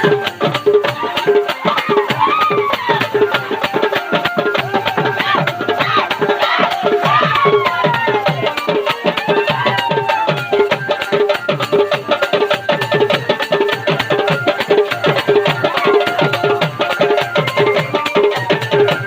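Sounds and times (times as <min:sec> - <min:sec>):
fast dholki drumming: 0:00.0 - 0:19.0
wavering melody line: 0:00.0 - 0:19.0.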